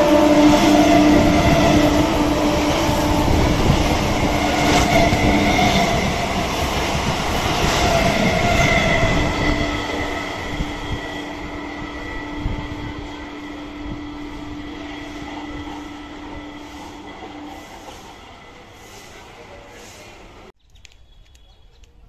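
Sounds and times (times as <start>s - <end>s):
train hum: 0.0s - 20.6s.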